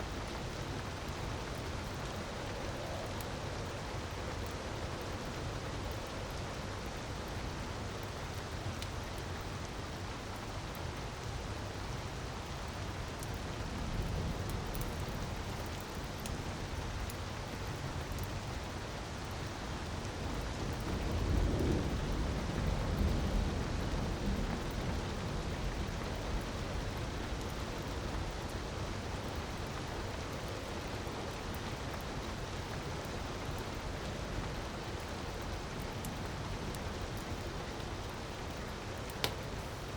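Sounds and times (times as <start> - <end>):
fire crackles: 0.0 - 39.9.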